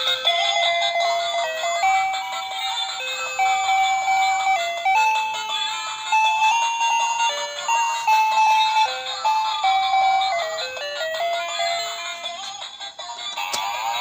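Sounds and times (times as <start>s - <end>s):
toy piano beeping melody: 0.0s - 14.0s.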